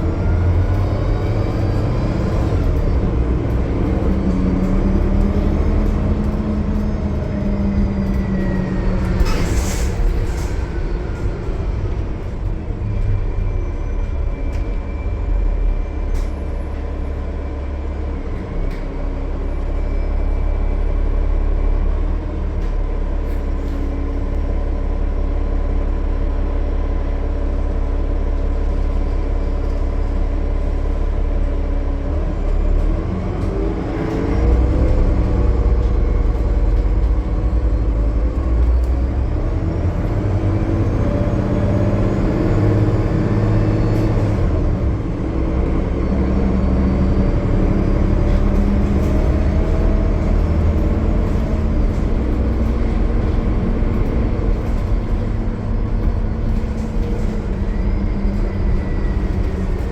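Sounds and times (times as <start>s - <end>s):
bus diesel engine droning: 0.0s - 59.9s
road rumble: 0.0s - 59.9s.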